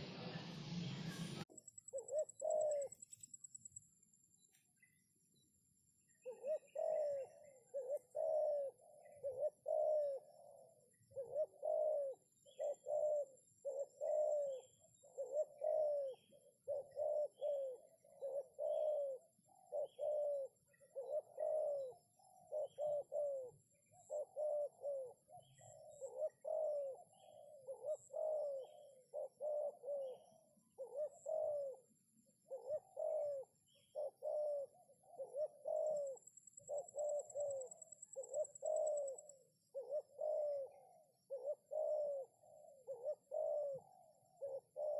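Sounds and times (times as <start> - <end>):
dove cooing: 1.1 - 3.2, 6.0 - 44.9.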